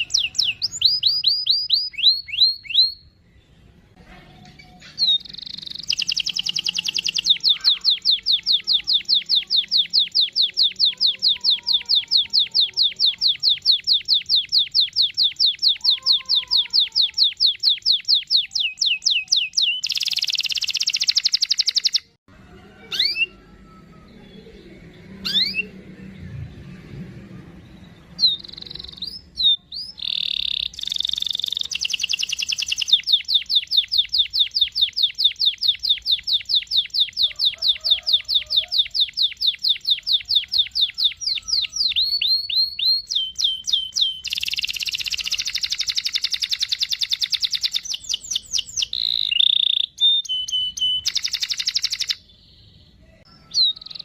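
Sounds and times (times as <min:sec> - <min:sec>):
canary trilling: 0:00.0 - 0:03.8, 0:04.4 - 0:26.0, 0:27.5 - 0:54.0
upward-sweeping bird chirps: 0:00.0 - 0:03.8, 0:04.6 - 0:22.2, 0:22.8 - 0:25.8, 0:26.6 - 0:54.0.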